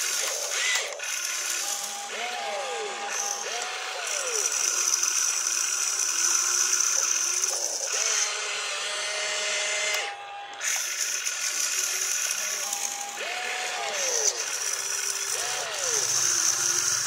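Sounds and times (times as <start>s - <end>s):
toy excavator motors whining: 0.0s - 17.0s.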